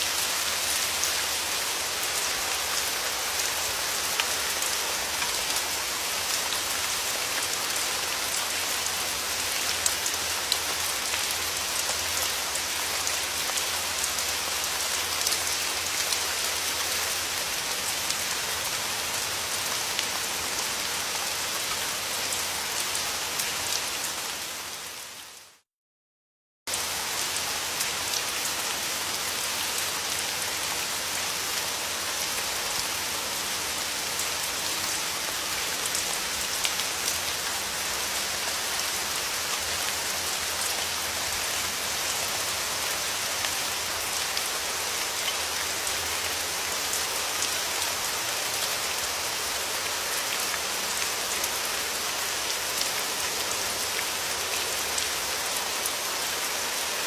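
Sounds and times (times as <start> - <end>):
steady rain falling: 0.0 - 25.6, 26.7 - 57.0.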